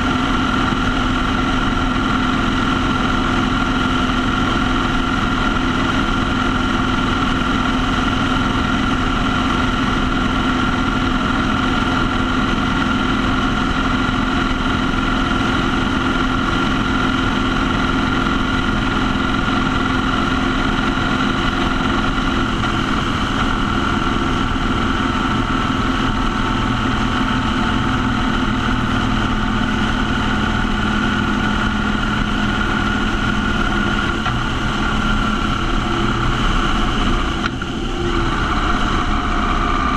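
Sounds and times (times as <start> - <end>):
motorcycle engine cruising: 0.0 - 39.9
tyre road noise: 0.0 - 39.9.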